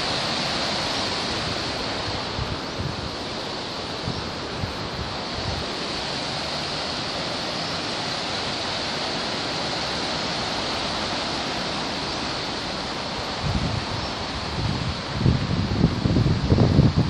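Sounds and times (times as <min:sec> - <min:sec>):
river water rushing over weir: 0:00.0 - 0:17.0.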